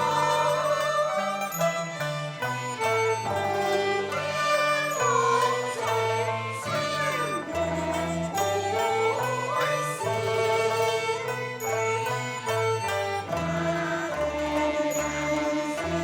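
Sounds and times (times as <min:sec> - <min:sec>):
instrumental ensemble playing: 0:00.0 - 0:16.0.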